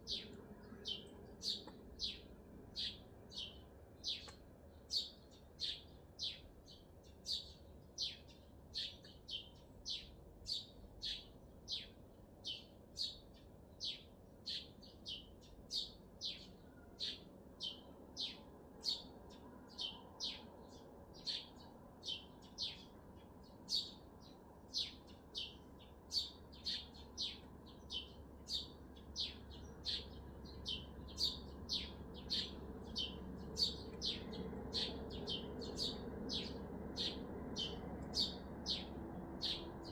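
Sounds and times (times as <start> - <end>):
low hum of city noise: 0.0 - 39.9
small bird chirping: 0.0 - 39.9.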